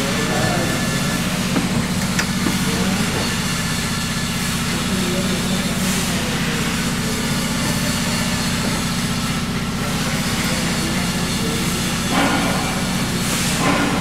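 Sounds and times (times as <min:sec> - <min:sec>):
heavy machinery droning: 0:00.0 - 0:14.0.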